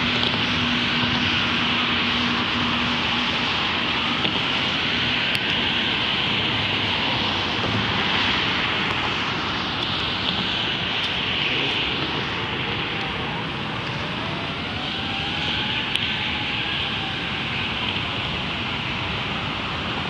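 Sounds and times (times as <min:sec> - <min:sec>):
freeway traffic hiss and rumble: 0:00.0 - 0:20.0.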